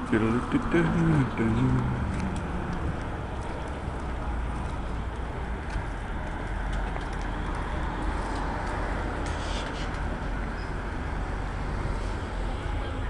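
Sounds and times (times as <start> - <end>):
city street traffic rumble: 0.0 - 13.0.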